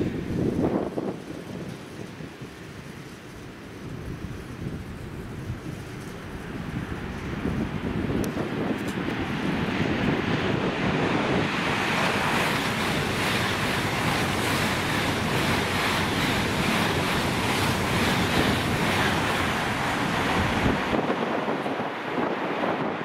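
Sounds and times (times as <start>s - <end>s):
high-speed train rushing past: 0.0s - 23.0s.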